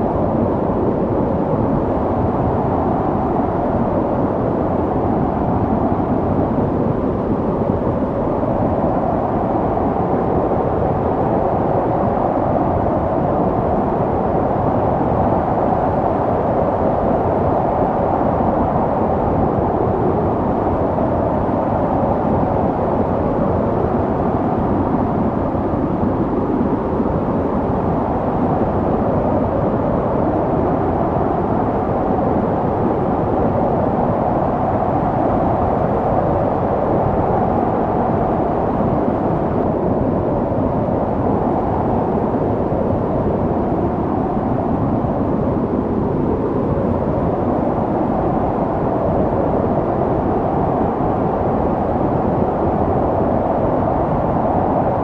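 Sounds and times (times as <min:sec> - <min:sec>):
snowstorm wind blowing: 0:00.0 - 0:55.0.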